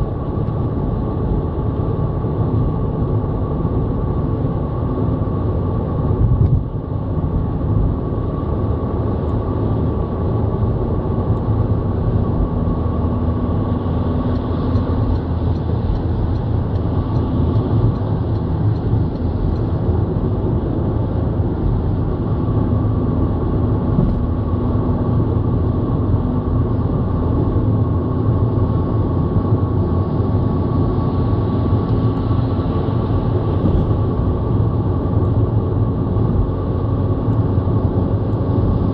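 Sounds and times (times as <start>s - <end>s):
tyres rumbling on tarmac: 0.0s - 38.9s.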